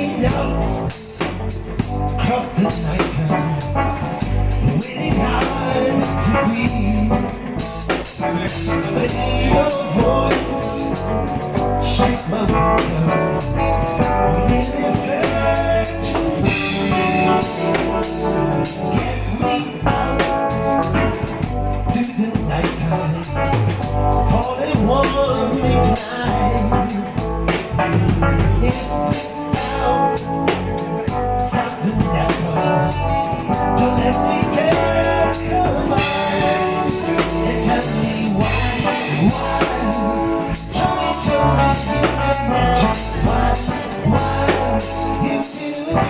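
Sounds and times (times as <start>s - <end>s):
blues band playing: 0.0s - 46.0s
drum kit: 0.0s - 46.0s
guitar: 0.0s - 46.0s.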